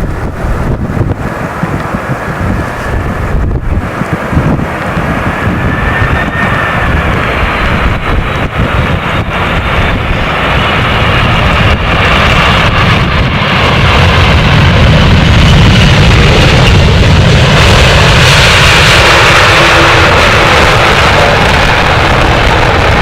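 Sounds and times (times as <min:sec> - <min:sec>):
jet engines rumbling with whine: 0:00.0 - 0:23.0.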